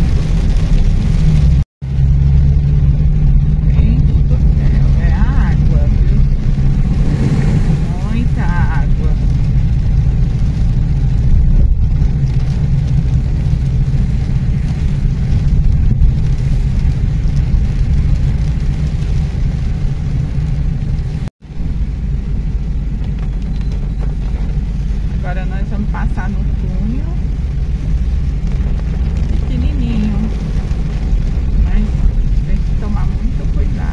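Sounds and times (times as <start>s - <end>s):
engine and road rumble: 0.0s - 33.9s
rain on a windscreen: 0.0s - 33.9s.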